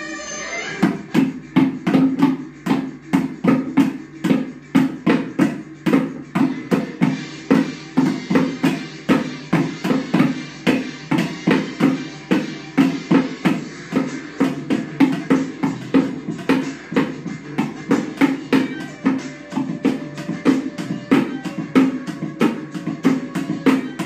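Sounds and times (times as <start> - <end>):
drumsticks beating plastic bucket: 0.8 - 24.0.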